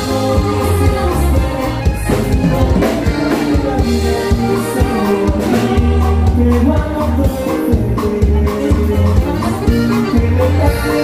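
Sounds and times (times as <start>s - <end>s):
bass line: 0.0s - 11.0s
drum kit: 0.0s - 11.0s
person singing: 0.0s - 11.0s.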